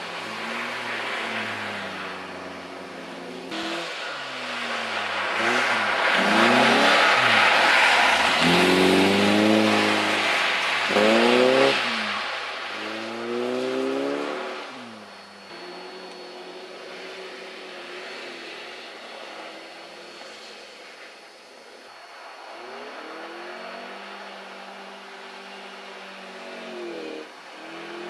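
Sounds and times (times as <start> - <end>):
car engine revving: 0.0 - 20.5, 22.4 - 28.0
tyres spinning on snow: 0.0 - 28.0.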